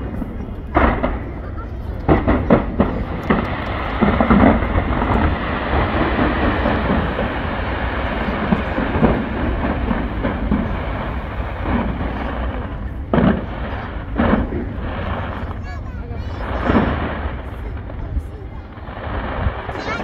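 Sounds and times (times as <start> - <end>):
fireworks crackling: 0.0 - 20.0
heavy fireworks bangs: 0.0 - 20.0.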